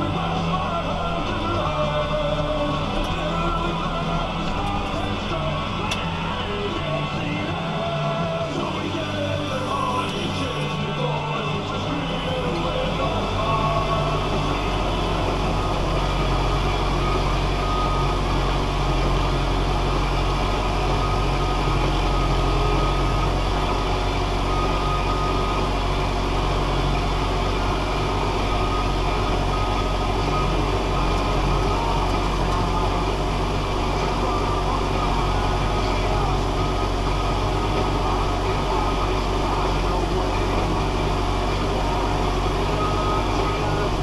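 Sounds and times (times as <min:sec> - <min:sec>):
tractor diesel engine droning: 0:00.0 - 0:44.0.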